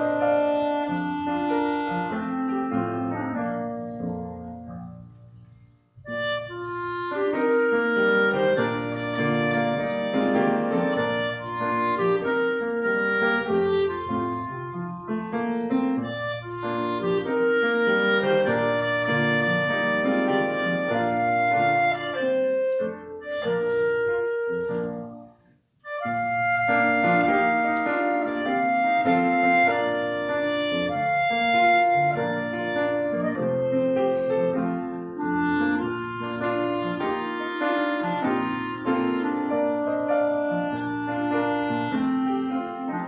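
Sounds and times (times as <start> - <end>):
clarinet melody: 0.0 - 43.0
piano accompaniment: 0.0 - 43.0.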